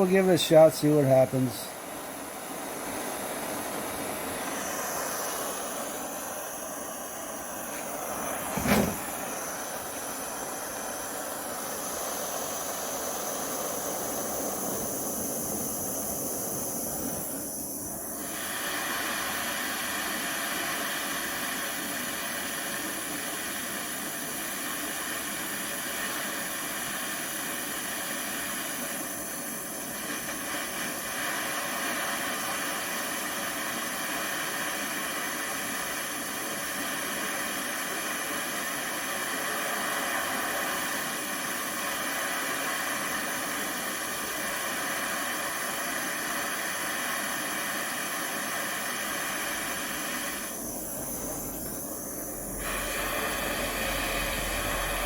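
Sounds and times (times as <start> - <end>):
propane torch hissing: 0.0 - 55.0.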